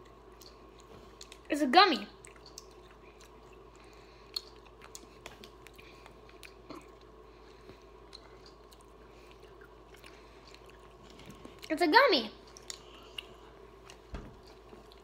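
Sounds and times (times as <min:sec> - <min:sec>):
wet mouth clicks of chewing: 0:00.0 - 0:01.5, 0:02.2 - 0:11.7, 0:12.4 - 0:15.0
faint steady hum: 0:00.0 - 0:15.0.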